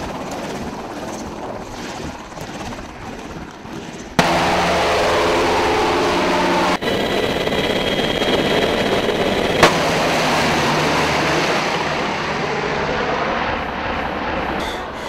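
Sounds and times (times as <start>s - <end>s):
helicopter rotor and turbine noise: 0.0s - 15.0s.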